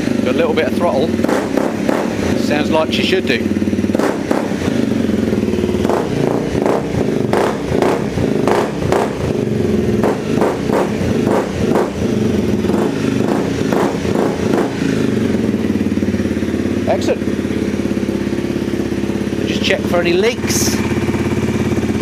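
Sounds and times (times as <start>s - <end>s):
engine throttle blips: 0.0s - 22.0s
motorcycle engine idling: 0.0s - 22.0s.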